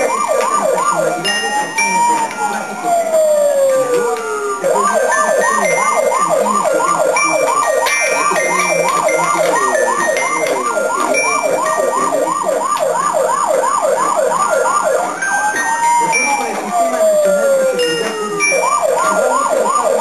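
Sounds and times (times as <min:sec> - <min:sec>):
siren wailing and yelping: 0:00.0 - 0:20.0.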